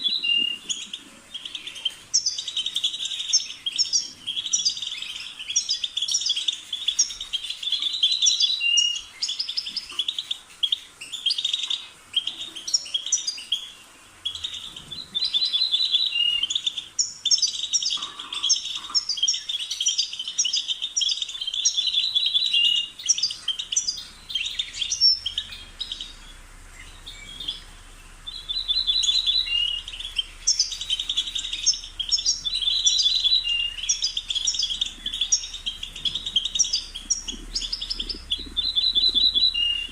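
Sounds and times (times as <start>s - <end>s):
goldfinch twittering and trilling: 0.0s - 39.9s.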